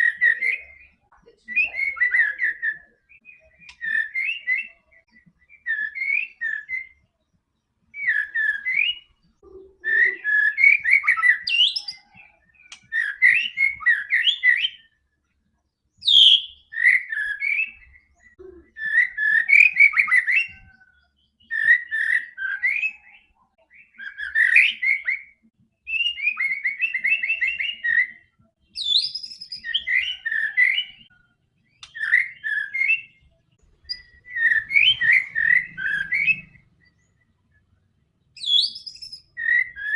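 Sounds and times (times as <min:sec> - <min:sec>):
bird singing whistled phrases: 0:00.0 - 0:07.0, 0:07.9 - 0:15.0, 0:16.0 - 0:31.2, 0:31.8 - 0:37.2, 0:38.4 - 0:39.9.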